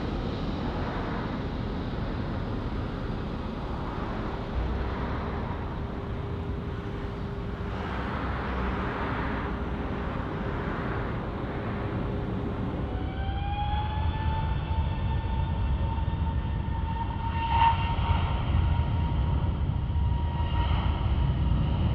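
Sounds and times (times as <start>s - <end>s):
jet engines roaring on landing: 0.0s - 21.9s.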